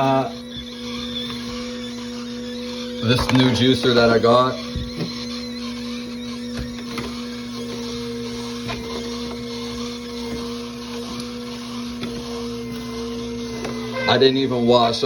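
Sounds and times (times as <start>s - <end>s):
electric juicer motor humming: 0.0s - 15.0s.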